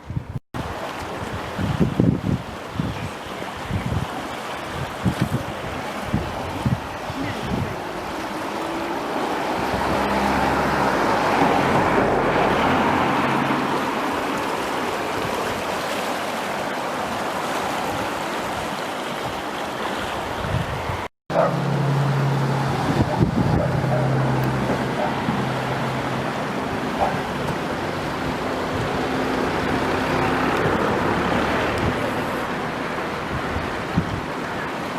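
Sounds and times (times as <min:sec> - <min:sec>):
river water rushing: 0:00.6 - 0:34.9.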